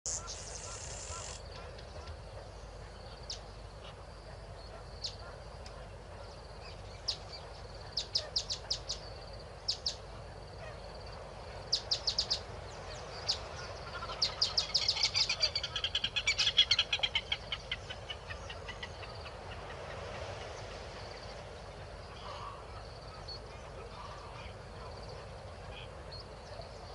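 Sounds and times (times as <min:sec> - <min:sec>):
bird calls: 0:00.1 - 0:04.0, 0:04.7 - 0:26.9
steady background noise: 0:00.1 - 0:26.9.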